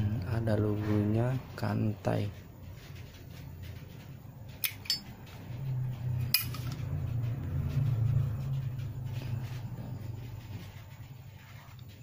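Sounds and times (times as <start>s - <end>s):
low handling rumble: 0.0s - 12.0s.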